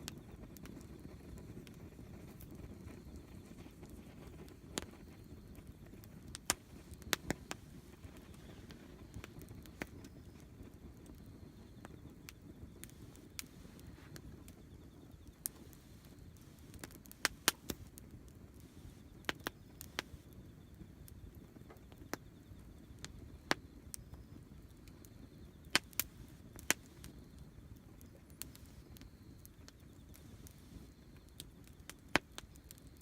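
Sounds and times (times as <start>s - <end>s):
campfire pops and snaps: 0.0s - 22.3s, 22.9s - 33.0s
low steady fire rumble: 0.0s - 33.0s.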